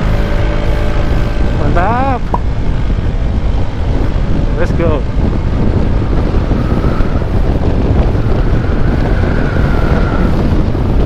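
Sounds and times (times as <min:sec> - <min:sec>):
scooter engine at full throttle: 0:00.0 - 0:11.0
wind buffeting microphone: 0:00.0 - 0:11.0.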